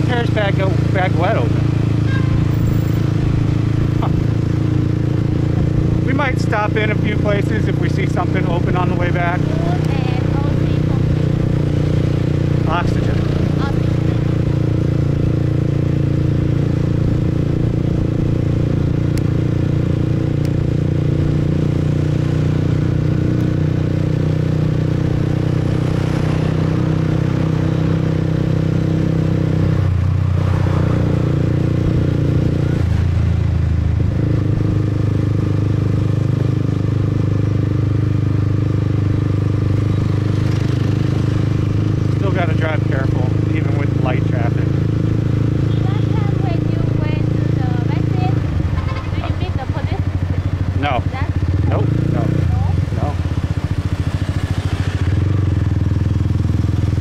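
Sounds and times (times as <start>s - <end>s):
motorbike engine running: 0.0s - 57.0s
road and wind noise: 0.0s - 57.0s.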